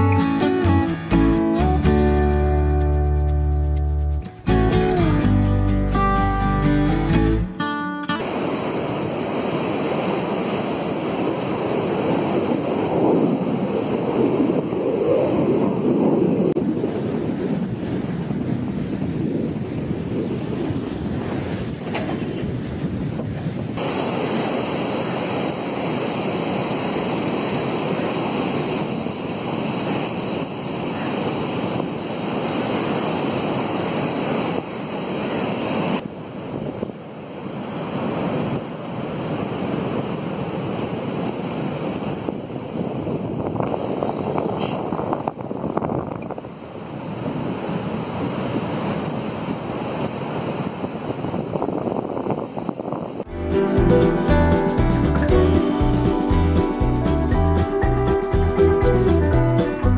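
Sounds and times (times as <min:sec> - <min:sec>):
surf breaking on a beach: 0:08.1 - 0:59.2
wind buffeting microphone: 0:08.2 - 0:59.6.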